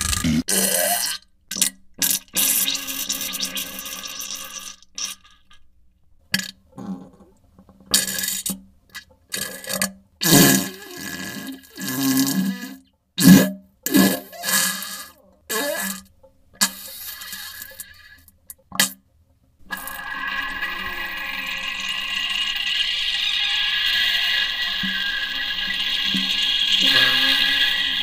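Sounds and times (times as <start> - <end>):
wet spluttering fart sounds: 0.0 - 5.6, 7.9 - 19.0, 19.6 - 28.0.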